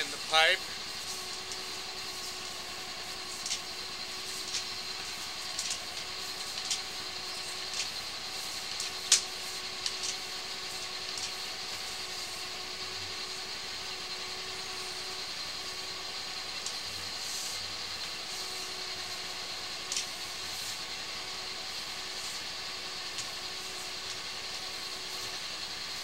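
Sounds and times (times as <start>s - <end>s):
sewer jetter engine drone: 0.0s - 26.0s.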